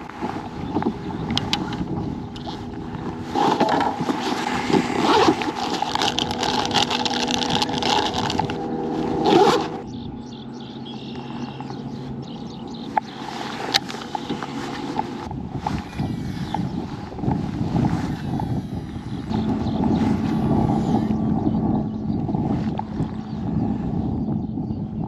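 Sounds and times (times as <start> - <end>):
electric boat motor humming: 0.0 - 25.0
wind buffeting microphone: 0.0 - 25.0.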